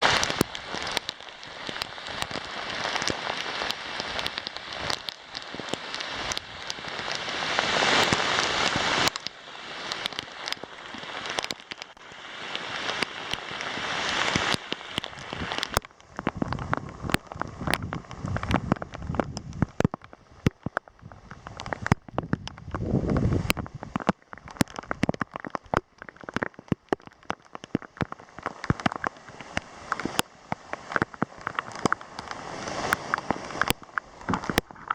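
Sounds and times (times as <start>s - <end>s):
heavy rain: 0.0s - 34.9s.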